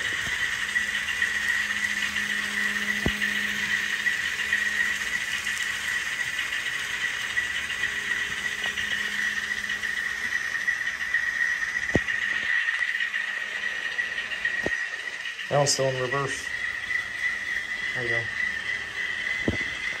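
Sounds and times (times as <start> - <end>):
high-pitched whine: 0.0 - 20.0.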